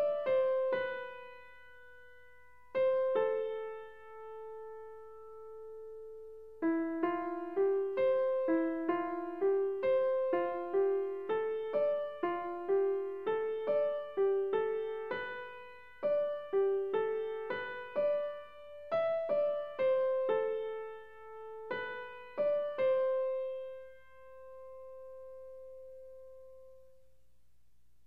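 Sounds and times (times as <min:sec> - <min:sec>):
piano-like keyboard melody: 0:00.0 - 0:27.0.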